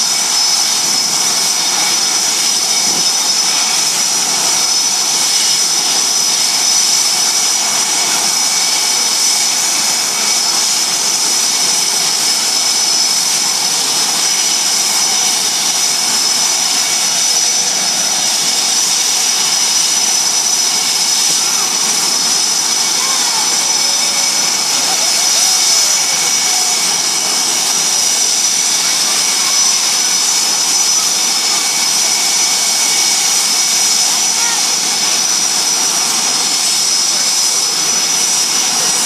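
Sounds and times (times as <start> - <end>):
jet engines running with high whine: 0.0 - 39.0.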